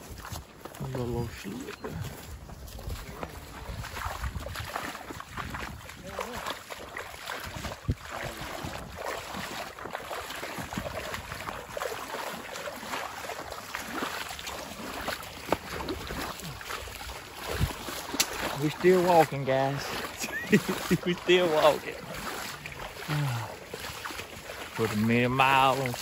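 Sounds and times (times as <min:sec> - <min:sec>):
boots splashing through water: 0:00.0 - 0:26.0.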